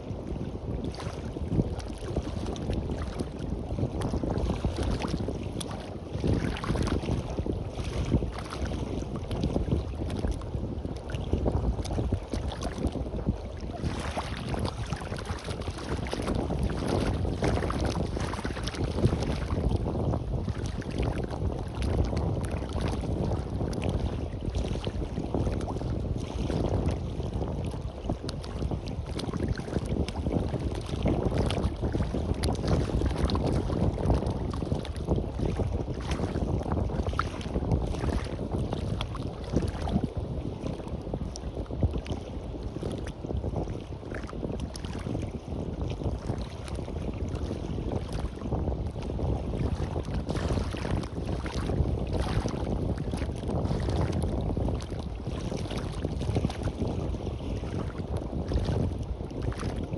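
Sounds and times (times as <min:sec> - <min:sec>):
waves washing onto beach: 0:00.0 - 0:59.9
wind buffeting microphone: 0:00.0 - 0:59.9.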